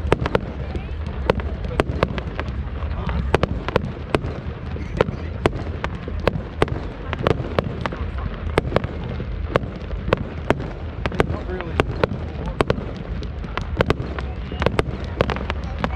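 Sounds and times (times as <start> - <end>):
fireworks bangs and cracks: 0.0 - 15.9
low rumble: 0.0 - 15.9.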